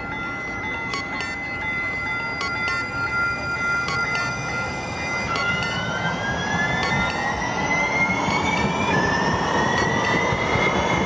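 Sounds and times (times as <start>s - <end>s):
streetcar motor whine: 0.0s - 11.0s
streetcar rolling noise: 0.0s - 11.0s.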